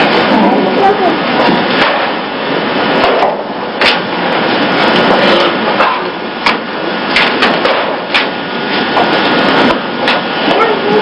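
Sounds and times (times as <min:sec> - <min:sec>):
steady noisy hiss: 0:00.0 - 0:11.0.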